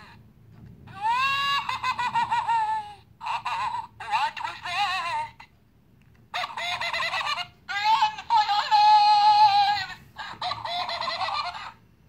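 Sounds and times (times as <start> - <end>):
squeaky electronic toy voice: 0.9 - 5.5, 6.3 - 11.8.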